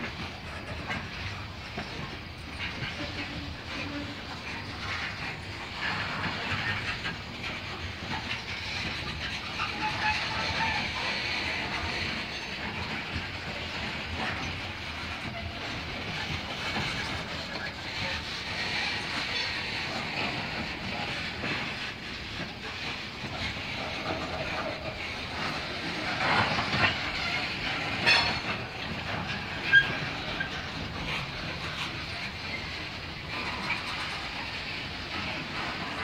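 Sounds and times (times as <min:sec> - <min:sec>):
train cars creaking and squealing: 0:00.0 - 0:36.0
train wheels clicking over rail joints: 0:00.0 - 0:36.0.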